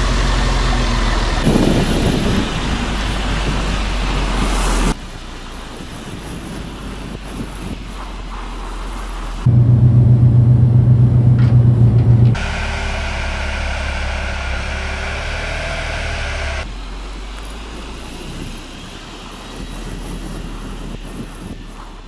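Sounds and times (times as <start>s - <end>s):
diesel truck engine running: 0.0s - 7.7s, 9.3s - 20.7s.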